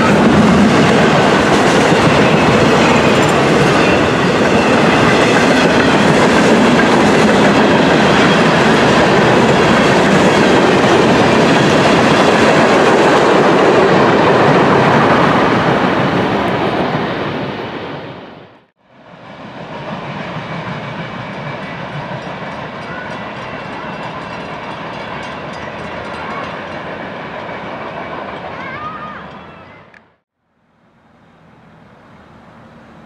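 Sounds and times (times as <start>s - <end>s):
train wheels rolling on rail: 0.0s - 29.7s.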